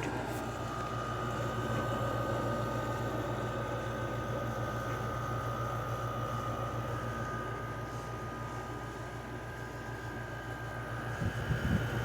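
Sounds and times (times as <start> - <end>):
air conditioner compressor hum: 0.0 - 12.0
fan rushing: 0.0 - 12.0.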